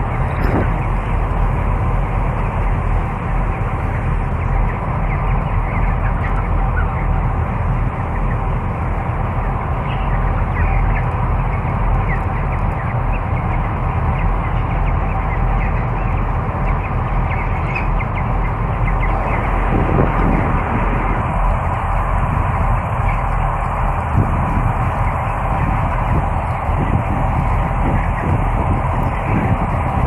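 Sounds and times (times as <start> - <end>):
chickens chirping and clucking: 0.0 - 1.4, 2.0 - 30.0
ventilation fans droning: 0.0 - 30.0.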